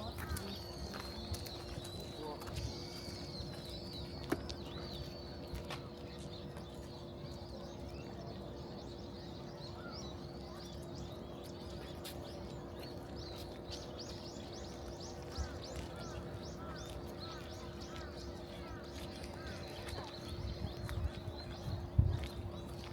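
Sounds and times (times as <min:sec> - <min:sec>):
small songbirds chirping: 0:00.0 - 0:22.9
steady low hum: 0:00.0 - 0:22.9.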